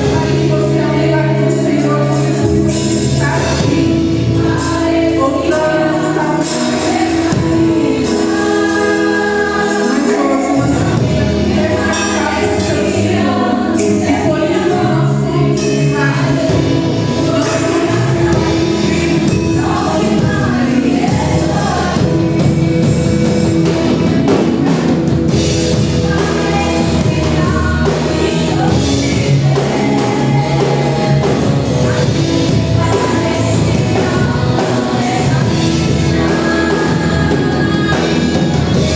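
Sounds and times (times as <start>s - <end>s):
band accompaniment: 0.0s - 38.9s
group singing gospel: 0.0s - 38.9s.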